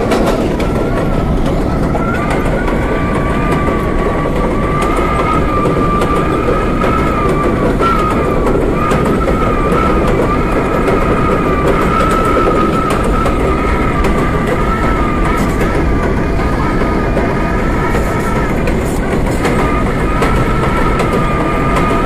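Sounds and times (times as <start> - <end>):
high wavering whine: 0.0 - 22.0
subway train wheels rumbling: 0.0 - 22.0.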